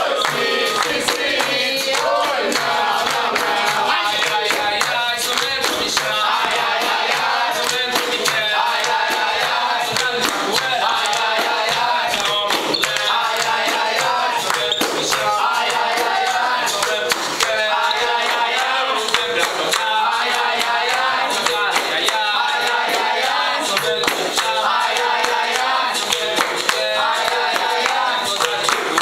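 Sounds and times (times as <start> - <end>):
group singing: 0.0 - 29.0
hand clapping: 0.0 - 29.0.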